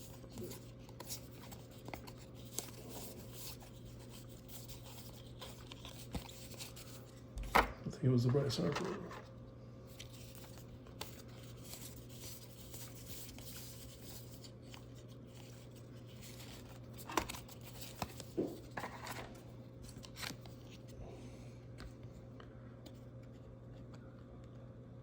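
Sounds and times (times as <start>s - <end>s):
trading cards rustling: 0.0s - 7.6s, 8.2s - 21.0s
steady low hum: 0.0s - 25.0s.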